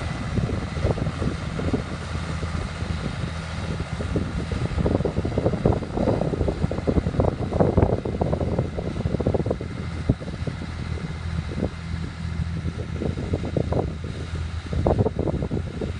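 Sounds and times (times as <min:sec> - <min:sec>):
tractor diesel engine running: 0:00.0 - 0:15.9
wind buffeting microphone: 0:00.0 - 0:15.9.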